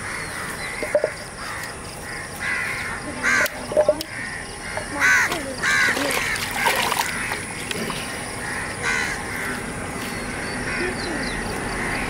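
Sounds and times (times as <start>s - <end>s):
crows cawing: 0.0s - 7.5s, 8.4s - 9.6s, 10.4s - 12.0s.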